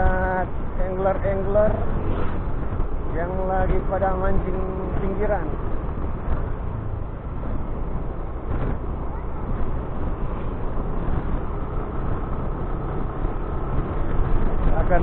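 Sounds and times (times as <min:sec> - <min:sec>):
road noise: 0:00.0 - 0:15.0
wind noise: 0:00.0 - 0:15.0.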